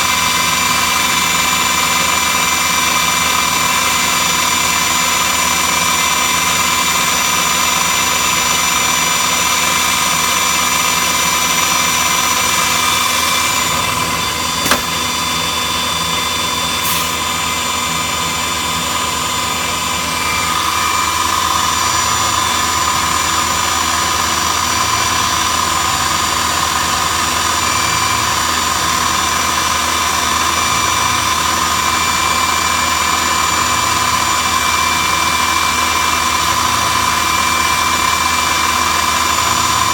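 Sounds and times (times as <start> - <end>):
machine noise: 0.0 - 39.9
router spindle whine: 0.0 - 39.9.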